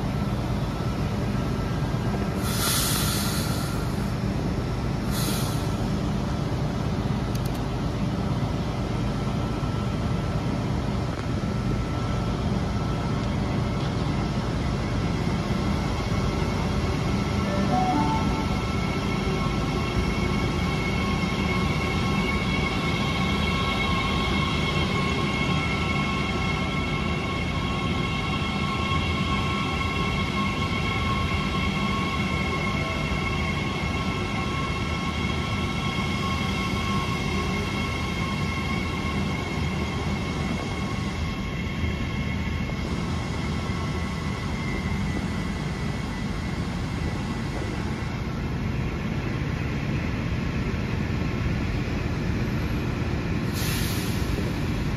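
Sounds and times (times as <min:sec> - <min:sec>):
electric train whine: 0:00.0 - 0:54.9
train rumble: 0:00.0 - 0:54.9.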